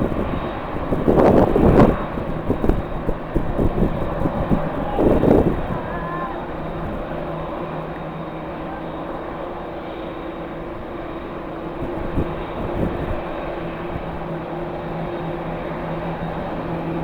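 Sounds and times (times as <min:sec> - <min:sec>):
distant jet engines rushing: 0:00.0 - 0:17.0.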